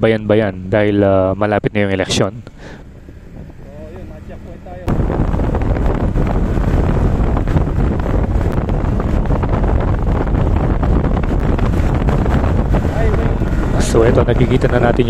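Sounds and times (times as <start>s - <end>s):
motorcycle engine and road noise: 0.0s - 15.0s
wind buffeting microphone: 1.7s - 15.0s.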